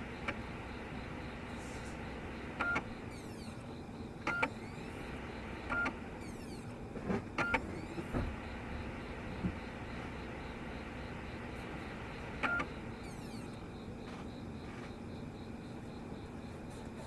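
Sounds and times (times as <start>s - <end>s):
disc drive buzzing chirps: 0.0s - 17.0s.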